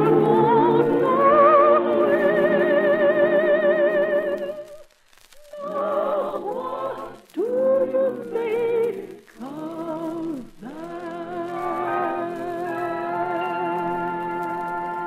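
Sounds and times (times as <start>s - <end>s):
choir singing sustained chords: 0.0s - 4.4s, 5.6s - 9.2s, 10.8s - 15.0s.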